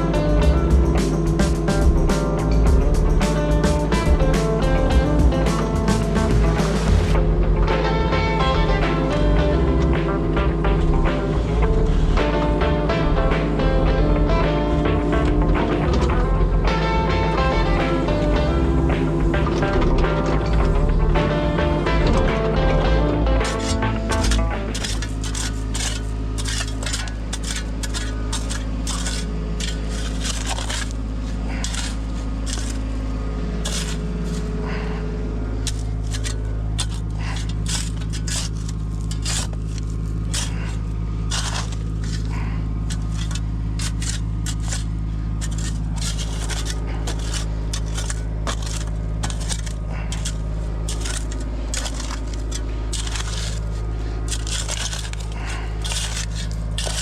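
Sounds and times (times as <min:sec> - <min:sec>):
bucket scraping dirt and stones: 0:00.0 - 0:57.0
excavator diesel engine running: 0:00.0 - 0:57.0.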